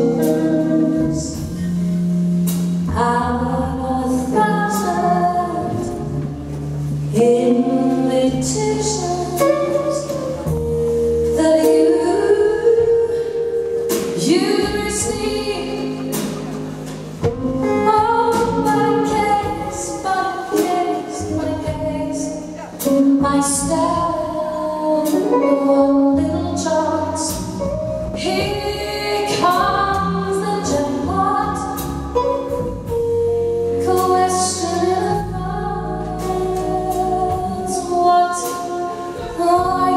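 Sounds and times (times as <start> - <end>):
woman singing into microphone: 0.0 - 1.8, 2.9 - 6.4, 7.1 - 10.5, 11.3 - 16.7, 17.6 - 27.6, 28.2 - 32.1, 33.8 - 39.9
double bass: 0.0 - 39.9
drums: 0.0 - 39.9.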